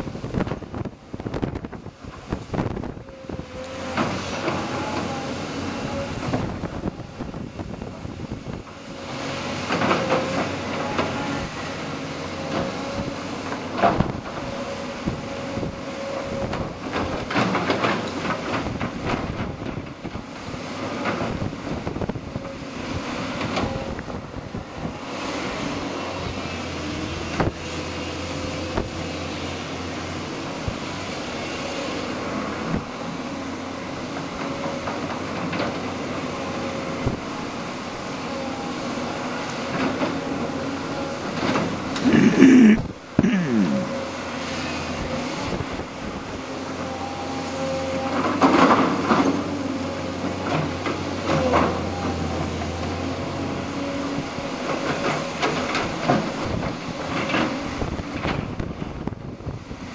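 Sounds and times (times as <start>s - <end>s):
diesel engine with whine: 0.0s - 59.9s.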